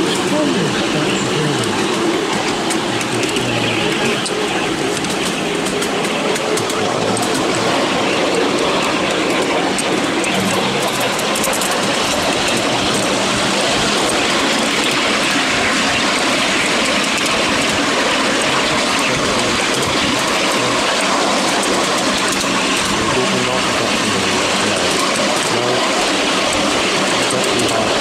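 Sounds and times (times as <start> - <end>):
train wheels rolling on rails: 0.0 - 28.0.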